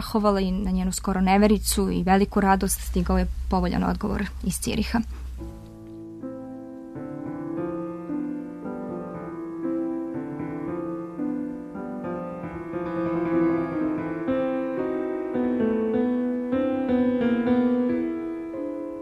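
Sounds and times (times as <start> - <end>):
piano music: 3.7 - 19.0.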